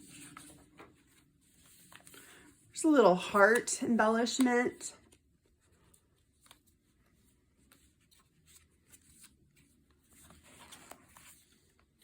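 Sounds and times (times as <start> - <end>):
paper pages rustling: 0.0 - 2.5, 3.2 - 12.0.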